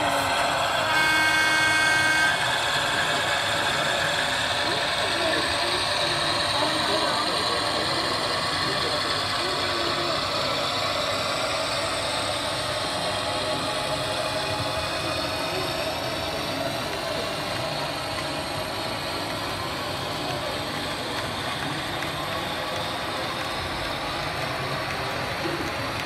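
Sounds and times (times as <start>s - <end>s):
busy hall background din: 0.0s - 26.0s
model trains rolling on track: 0.0s - 26.0s.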